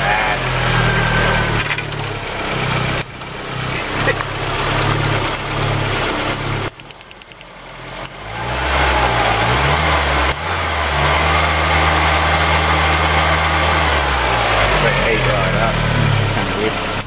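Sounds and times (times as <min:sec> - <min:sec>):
petrol engine running: 0:00.0 - 0:17.0.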